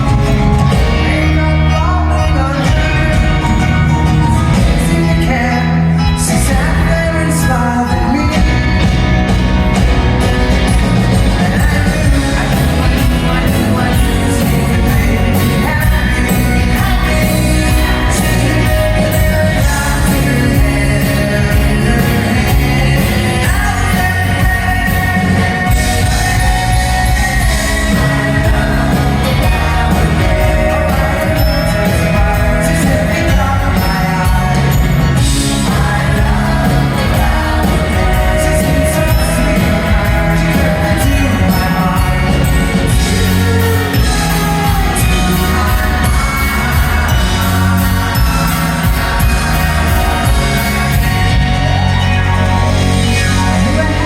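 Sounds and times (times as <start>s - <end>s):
person singing with band: 0.0s - 54.0s.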